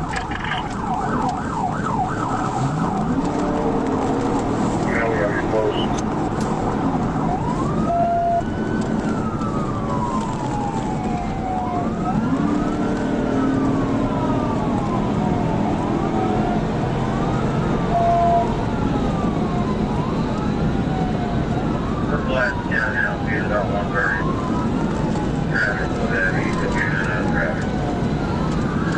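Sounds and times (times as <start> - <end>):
car engine and road noise: 0.0 - 28.9
police siren wailing: 0.0 - 28.9.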